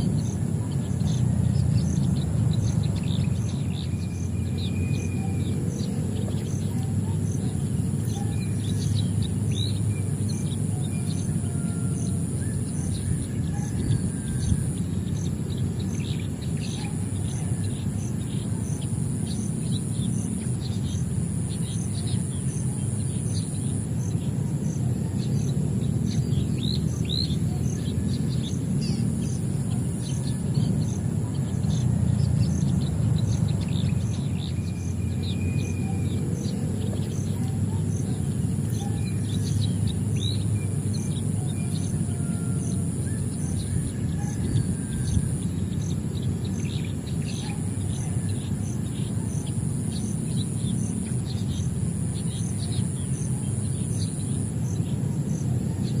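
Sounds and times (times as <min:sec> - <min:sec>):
constant low rumble: 0:00.0 - 0:56.0
insects buzzing: 0:00.0 - 0:56.0
songbirds chirping: 0:00.0 - 0:56.0.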